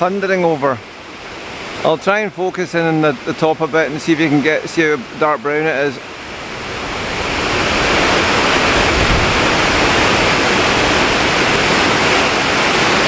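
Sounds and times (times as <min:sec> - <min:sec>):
waterfall thundering rush: 0:00.0 - 0:13.0.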